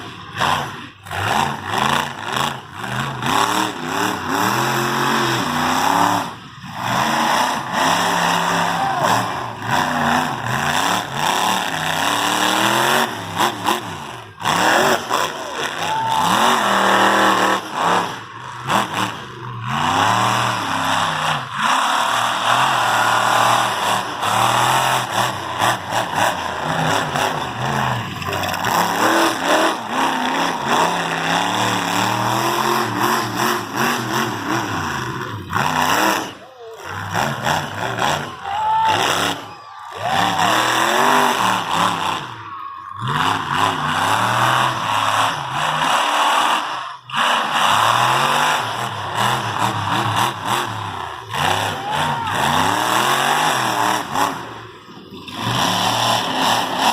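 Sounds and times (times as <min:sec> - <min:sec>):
monster truck engine revving: 0:00.0 - 0:56.9.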